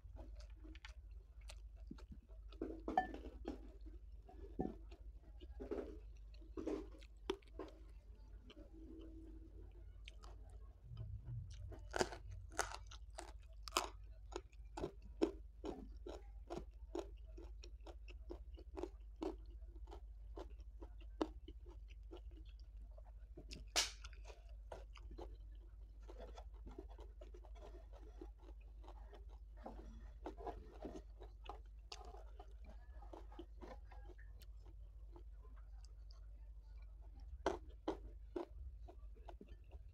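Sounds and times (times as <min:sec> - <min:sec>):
chewing crunchy vegetables: 0:00.0 - 0:39.9.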